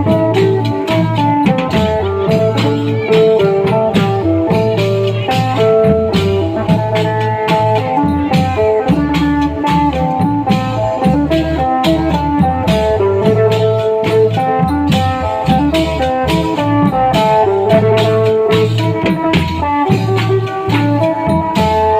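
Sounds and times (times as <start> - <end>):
drums and percussion hits: 0.0 - 21.9
plucked-string melody: 0.0 - 21.9.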